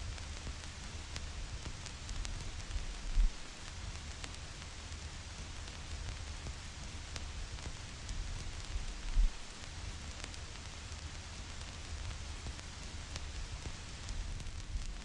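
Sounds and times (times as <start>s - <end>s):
vinyl record surface noise: 0.0s - 15.0s.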